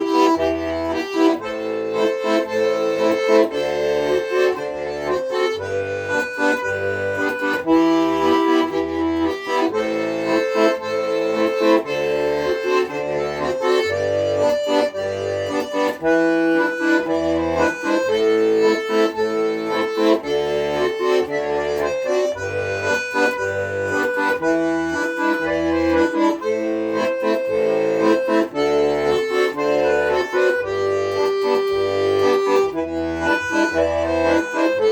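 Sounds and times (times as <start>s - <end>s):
accordion playing: 0.0s - 34.9s.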